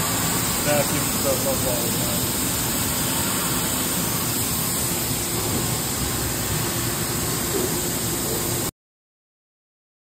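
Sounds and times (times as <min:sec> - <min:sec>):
machining center running: 0:00.0 - 0:08.7.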